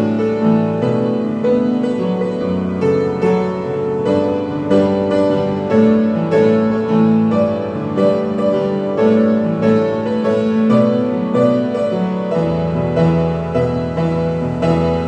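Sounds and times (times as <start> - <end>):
piano slow chords: 0.0 - 15.0.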